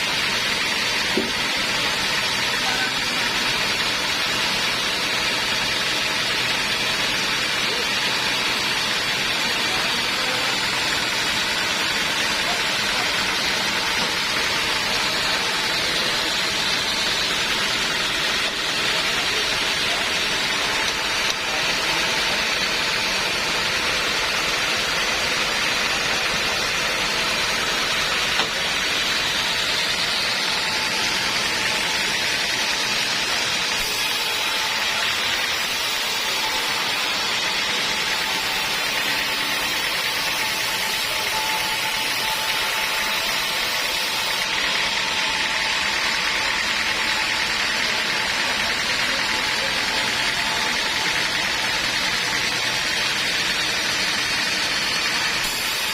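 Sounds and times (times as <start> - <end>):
band sawmill sawing through log: 0.0 - 55.9.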